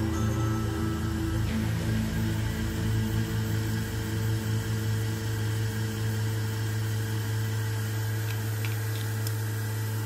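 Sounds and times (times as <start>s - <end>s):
small electric motor humming: 0.0s - 10.0s.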